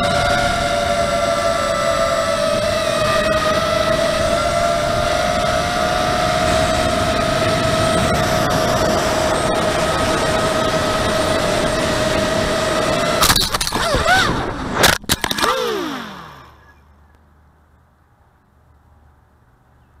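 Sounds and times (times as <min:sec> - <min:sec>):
quadcopter motors whining: 0:00.0 - 0:17.2
propellers striking branches: 0:00.0 - 0:17.3.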